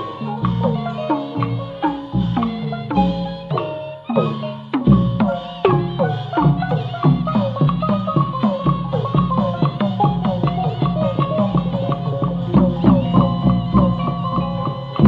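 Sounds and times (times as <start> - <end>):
clacking wood block beat: 0.0 - 15.0
tuned percussion runs: 0.0 - 15.0.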